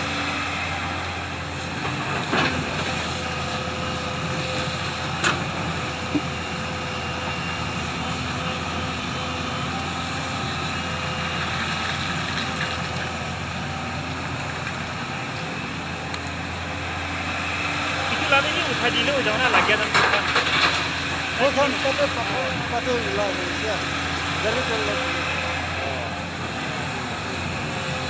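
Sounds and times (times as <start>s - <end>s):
diesel machinery running: 0.0s - 28.0s.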